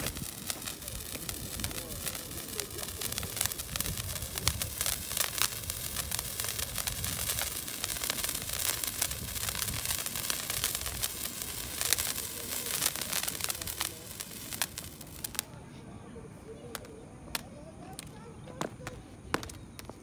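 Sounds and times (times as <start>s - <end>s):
firework fizzing and crackling: 0.0s - 20.0s.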